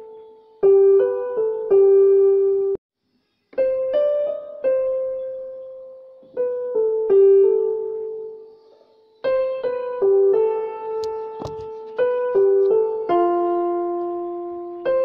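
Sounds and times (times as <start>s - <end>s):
slow piano music: 0.0s - 2.8s, 3.5s - 15.0s.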